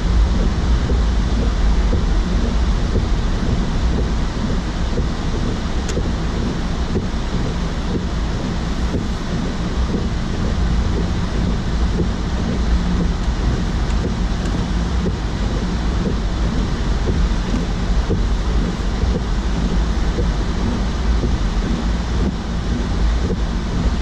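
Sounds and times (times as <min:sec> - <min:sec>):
car engine drone: 0:00.0 - 0:24.0
tyres rumbling on snowy road: 0:00.0 - 0:24.0.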